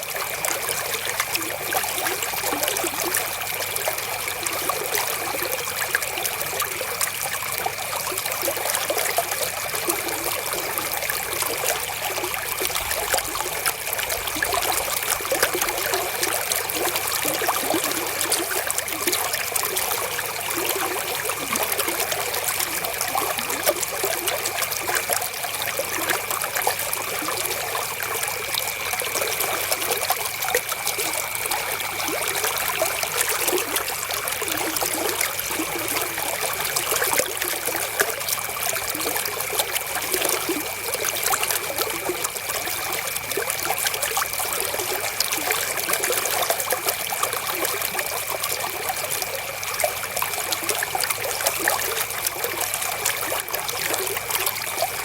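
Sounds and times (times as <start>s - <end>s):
river water flowing over stones: 0.0s - 55.0s.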